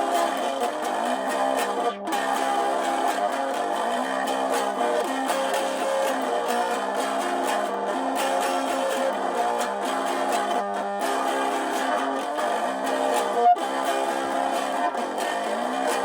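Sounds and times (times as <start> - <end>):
guitar strummed and picked: 0.0 - 16.0.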